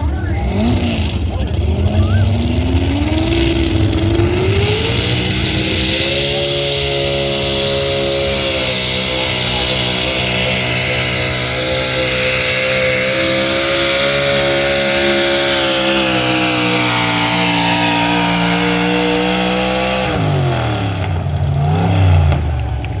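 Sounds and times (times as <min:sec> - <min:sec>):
truck engine revving under load: 0:00.0 - 0:23.0.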